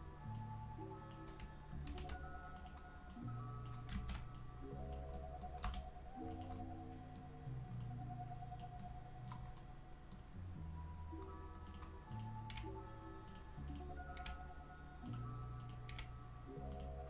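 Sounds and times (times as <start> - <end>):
soft music of held chords: 0.0 - 17.0
keyboard and mouse clicks: 0.3 - 10.2, 11.2 - 17.0.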